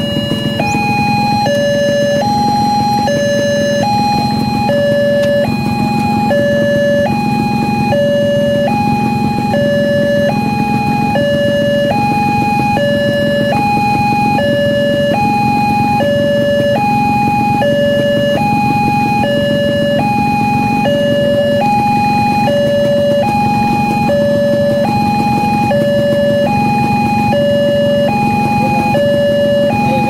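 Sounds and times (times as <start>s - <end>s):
two-tone crossing alarm: 0.0s - 30.0s.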